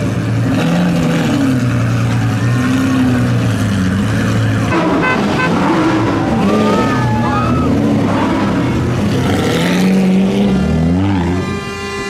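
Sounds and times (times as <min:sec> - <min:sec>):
car engines idling: 0:00.0 - 0:12.0.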